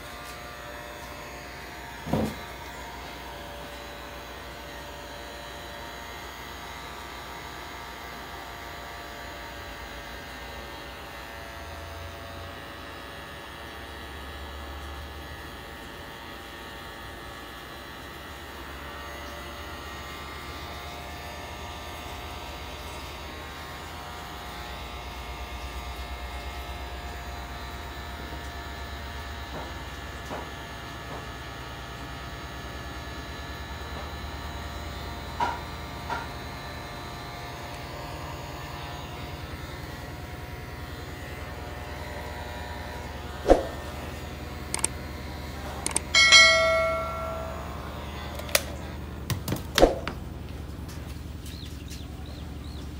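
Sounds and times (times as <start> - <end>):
heat gun fan humming: 0.0 - 52.9.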